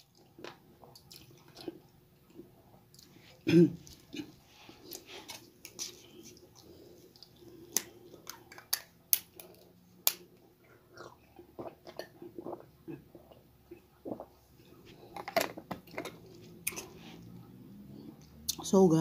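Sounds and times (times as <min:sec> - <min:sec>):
person chewing: 0:00.0 - 0:18.6.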